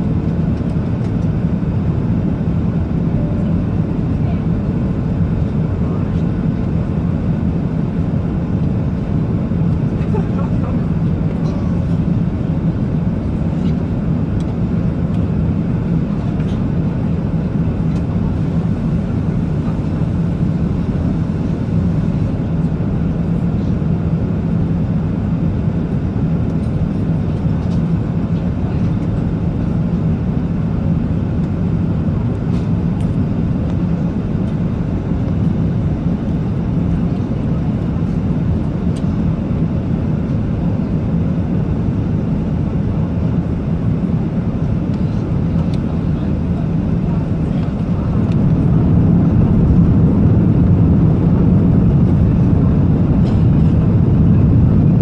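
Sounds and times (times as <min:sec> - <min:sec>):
aircraft rumble: 0:00.0 - 0:55.0.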